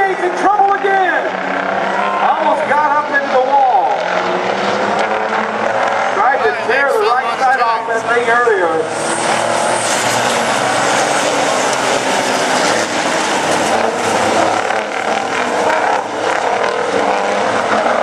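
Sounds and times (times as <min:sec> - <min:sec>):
truck engines droning: 0:00.0 - 0:18.0.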